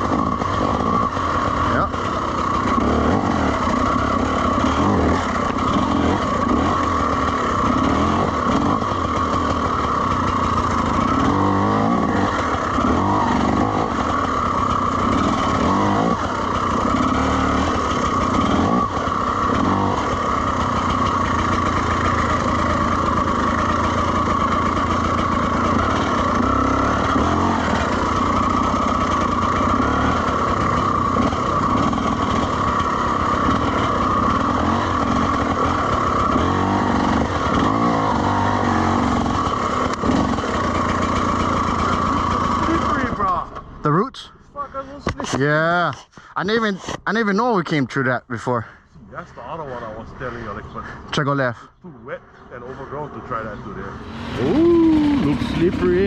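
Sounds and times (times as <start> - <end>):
dirt bike engine revving: 0.0 - 48.1, 49.1 - 56.0.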